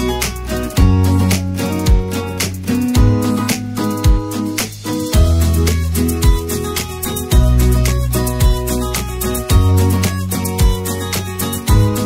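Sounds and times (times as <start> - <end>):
music with beat and bass: 0.0 - 12.0.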